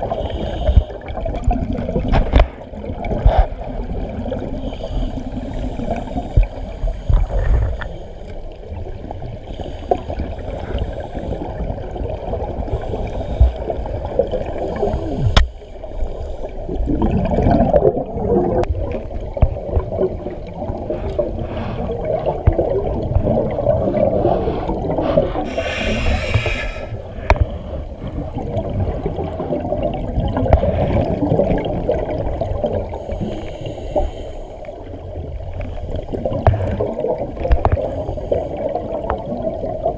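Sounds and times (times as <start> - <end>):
diver's regulator gurgling: 0.0 - 8.0, 8.8 - 15.6, 16.5 - 34.3, 35.3 - 39.9
exhaled bubbles underwater: 0.0 - 39.9
hissing rush of bubbles: 0.0 - 39.9.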